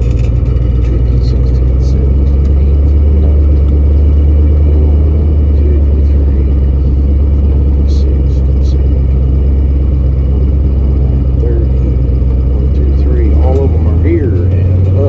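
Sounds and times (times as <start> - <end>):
pickup truck engine and road noise: 0.0 - 15.0.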